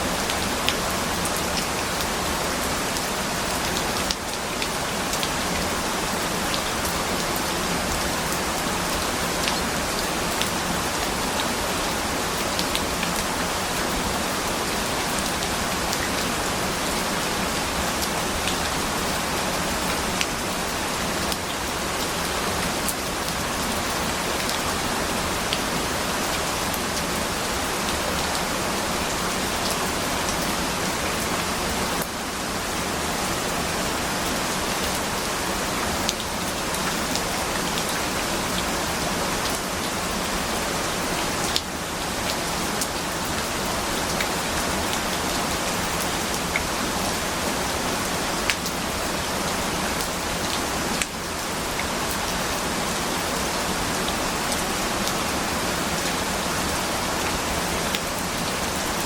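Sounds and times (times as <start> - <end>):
dense rainfall: 0.0 - 59.0.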